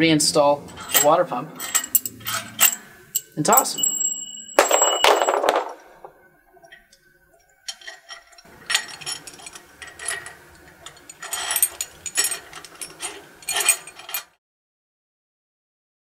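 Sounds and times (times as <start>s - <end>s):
metal bolts clicking and clinking: 0.6s - 14.4s.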